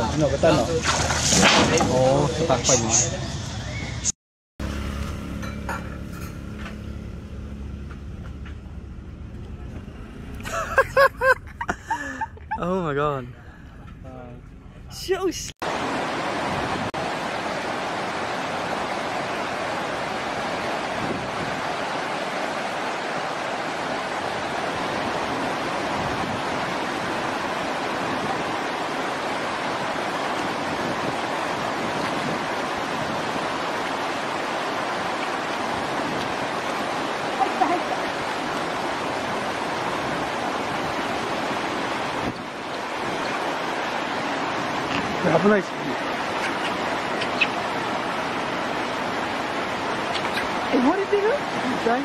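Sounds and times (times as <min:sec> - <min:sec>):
rushing water: 0:00.0 - 0:03.3, 0:04.6 - 0:52.0.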